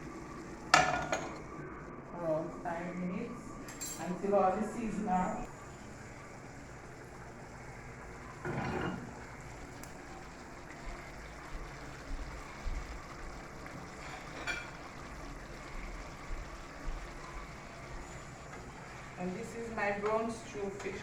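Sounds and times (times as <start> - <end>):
pot hissing on stove: 0.0 - 21.0.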